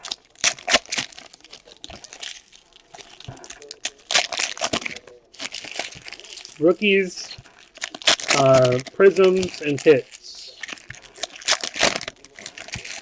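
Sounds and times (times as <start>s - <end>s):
packaging tearing and crinkling: 0.0s - 13.0s.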